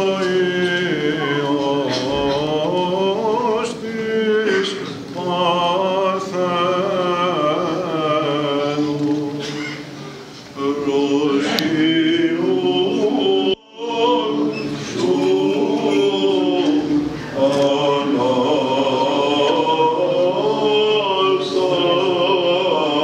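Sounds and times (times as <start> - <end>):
men chanting unaccompanied: 0.0 - 9.6, 10.6 - 23.0.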